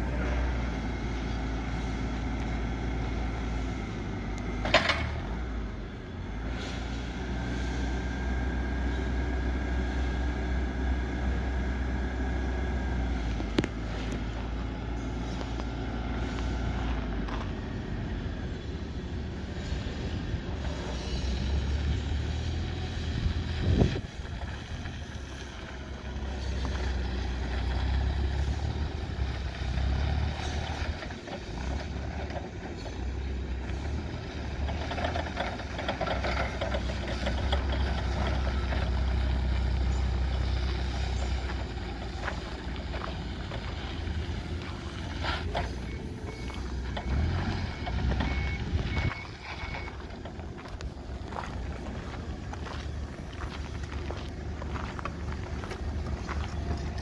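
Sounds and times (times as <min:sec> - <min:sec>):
forklift engine running: 0:00.0 - 0:57.0
tyres on gravel: 0:00.0 - 0:57.0.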